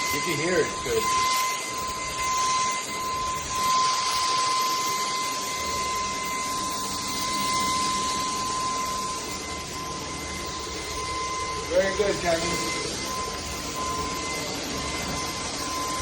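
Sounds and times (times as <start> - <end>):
vacuum motor whine: 0.0 - 16.0.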